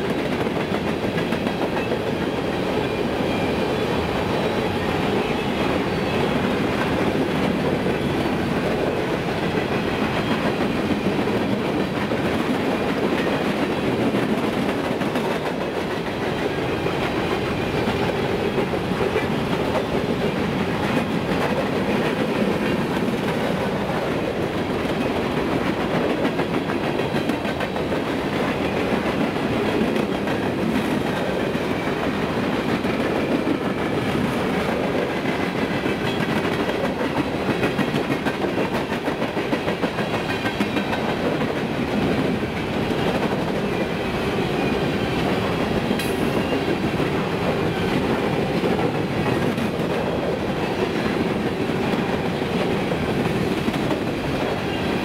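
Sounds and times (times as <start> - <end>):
clickety-clack over rail joints: 0.0 - 3.0, 4.1 - 55.0.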